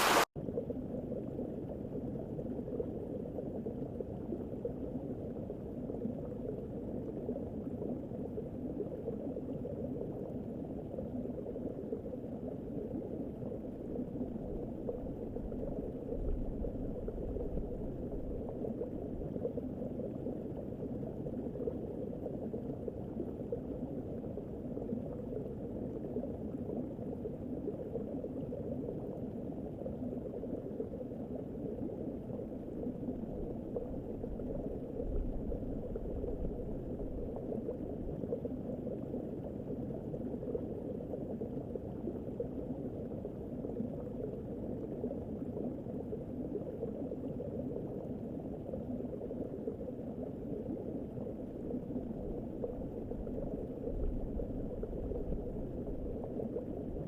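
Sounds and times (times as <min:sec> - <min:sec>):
bubbling rushing water: 0:00.0 - 0:57.0.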